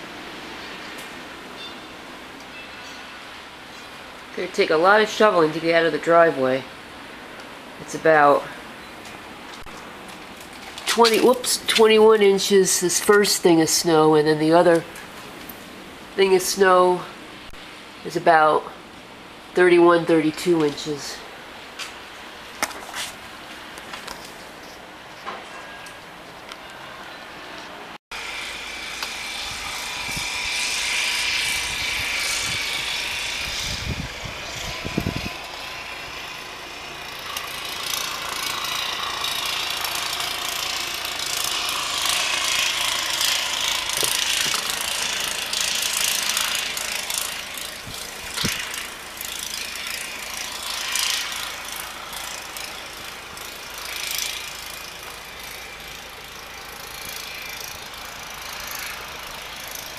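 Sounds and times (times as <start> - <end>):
distant snowblower engine running: 0.0 - 59.9.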